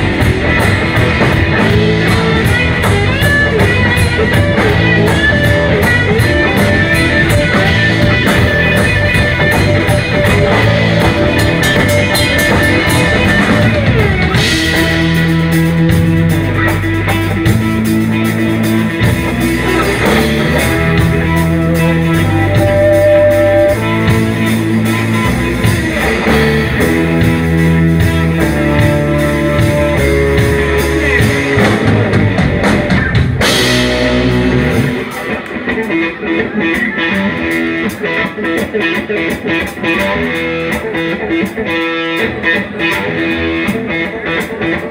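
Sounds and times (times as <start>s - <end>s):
bent electric guitar notes: 0.0s - 44.9s
electric blues band playing: 0.0s - 44.9s.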